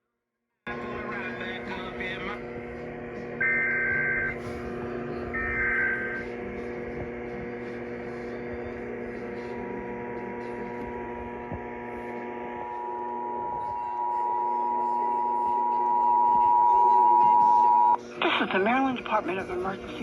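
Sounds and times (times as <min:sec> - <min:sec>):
steady radio hum: 0:00.7 - 0:20.0.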